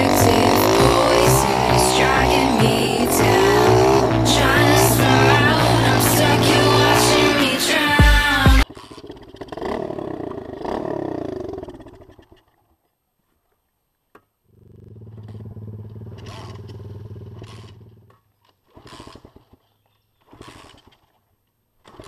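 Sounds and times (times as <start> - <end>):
small motorbike engine: 0.0 - 12.4, 14.6 - 21.2.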